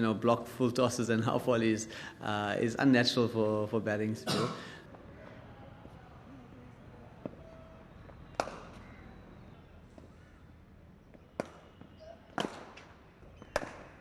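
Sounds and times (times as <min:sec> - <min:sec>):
faint steady background noise: 0:00.0 - 0:14.0.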